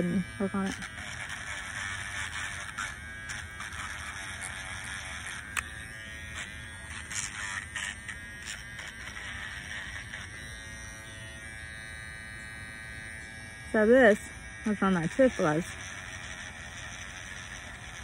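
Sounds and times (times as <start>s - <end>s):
steady electric buzz: 0.0s - 18.0s.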